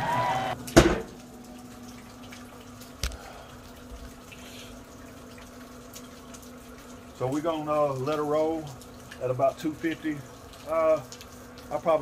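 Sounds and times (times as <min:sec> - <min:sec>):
grill fan humming: 0:00.0 - 0:12.0
rain dripping: 0:00.0 - 0:12.0.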